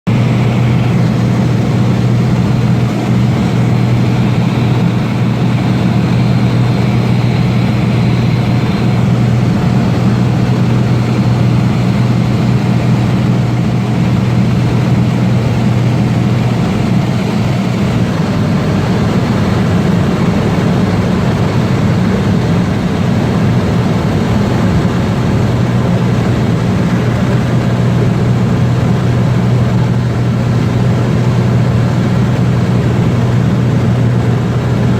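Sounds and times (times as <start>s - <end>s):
light aircraft engine droning: 0.1s - 34.9s.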